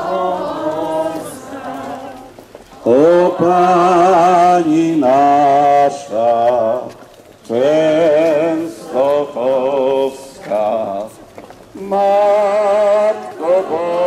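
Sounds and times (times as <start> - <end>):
people singing a hymn: 0.0 - 14.0.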